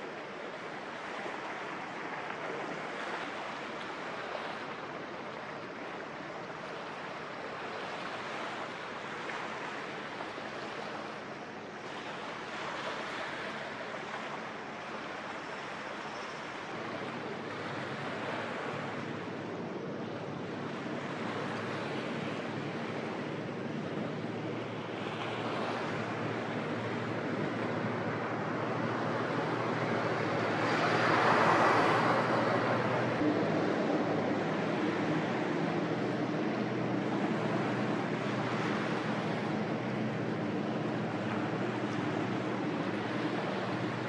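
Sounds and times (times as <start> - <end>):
water rushing: 0.0 - 44.0
wind: 0.0 - 44.0.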